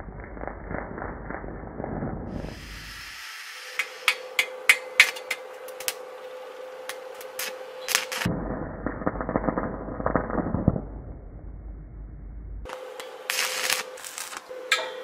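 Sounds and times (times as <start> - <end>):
arc welding crackle: 0.0 - 11.2, 12.7 - 15.0
steady hum: 1.8 - 15.0.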